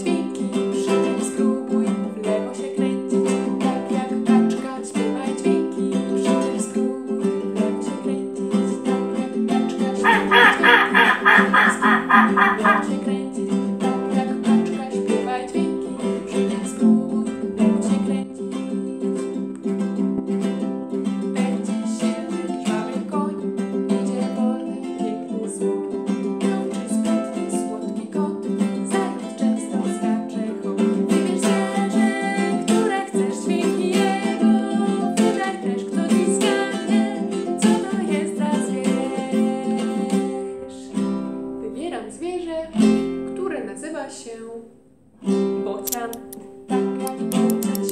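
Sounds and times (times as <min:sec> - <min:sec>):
acoustic string instrument strumming: 0:00.0 - 0:47.9.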